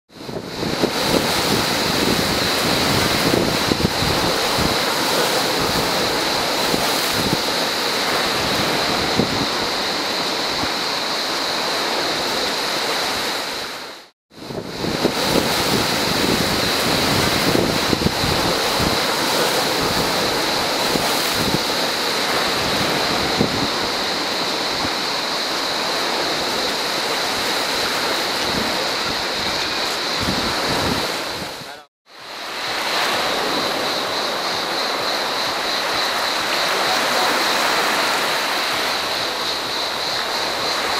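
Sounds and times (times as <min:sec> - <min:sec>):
surf breaking on rocky shore: 0:00.1 - 0:40.9
cicadas buzzing: 0:00.2 - 0:40.9.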